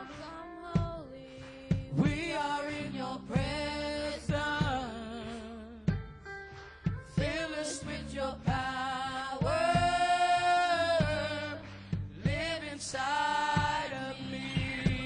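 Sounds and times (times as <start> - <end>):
gospel group singing: 0.0 - 5.8, 7.0 - 15.0
band accompaniment: 0.0 - 15.0.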